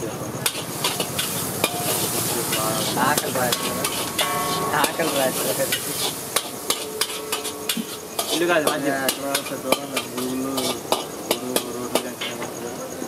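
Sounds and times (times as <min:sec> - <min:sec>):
metal spatula scraping a wok: 0:00.4 - 0:12.6
eggs sizzling in oil: 0:00.4 - 0:12.8.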